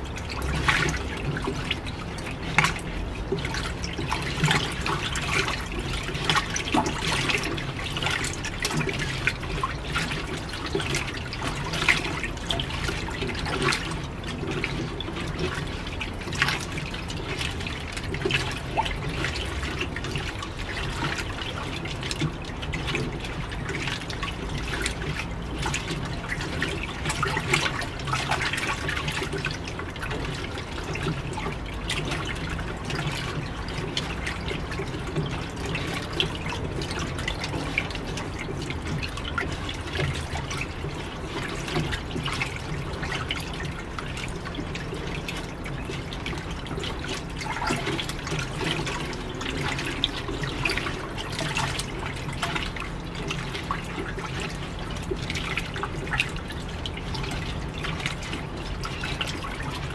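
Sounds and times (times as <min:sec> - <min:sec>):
washing machine motor hum: 0:00.0 - 0:59.9
water sloshing and splashing: 0:00.0 - 0:59.9.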